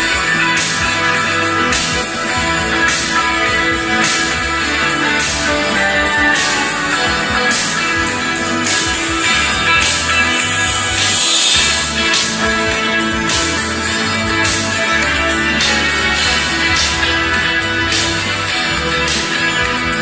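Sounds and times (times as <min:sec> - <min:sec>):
loud guitar rock music: 0:00.0 - 0:20.0.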